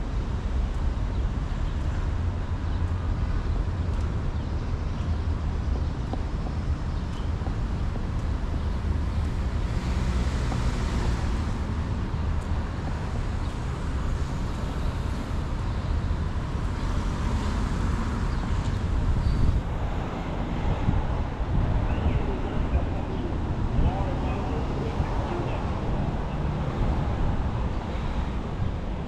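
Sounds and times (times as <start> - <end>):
steady traffic noise: 0.0 - 29.0
wind rumble on microphone: 0.0 - 29.0.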